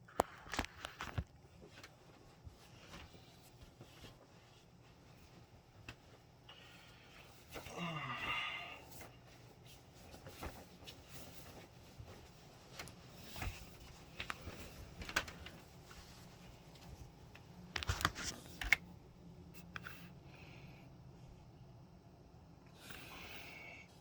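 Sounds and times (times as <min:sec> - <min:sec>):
faint steady low hum: 0:00.0 - 0:24.0.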